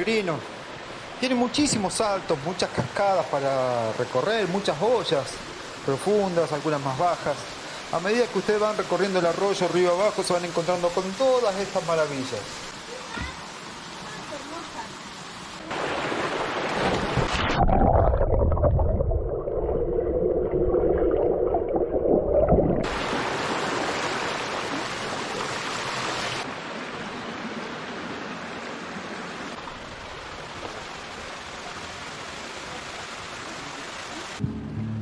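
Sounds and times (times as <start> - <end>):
waterfall rushing into pool: 0.0 - 18.5, 22.4 - 34.7.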